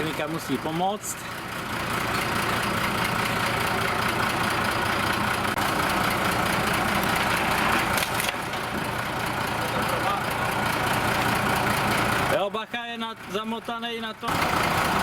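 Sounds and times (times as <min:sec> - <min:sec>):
work machine engine running: 0:00.0 - 0:15.0.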